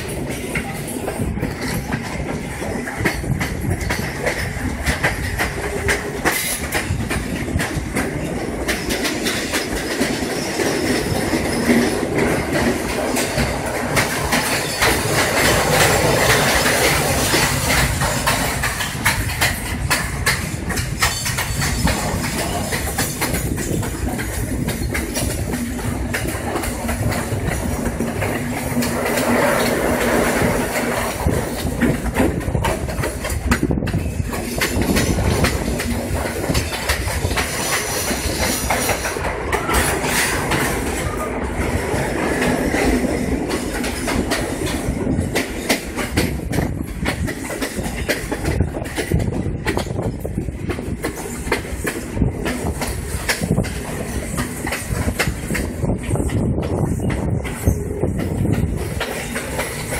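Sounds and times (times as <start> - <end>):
train wheels clattering: 0.0 - 59.9.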